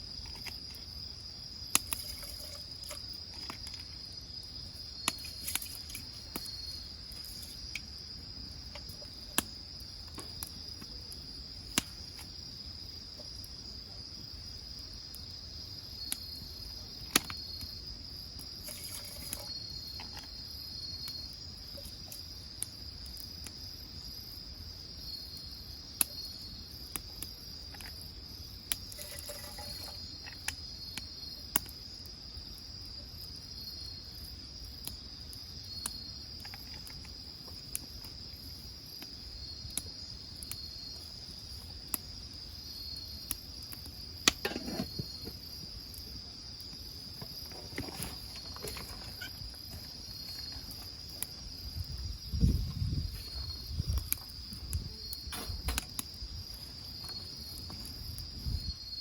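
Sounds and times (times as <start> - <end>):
wood fire crackling and popping: 0.0 - 58.7
insects trilling: 0.0 - 59.0.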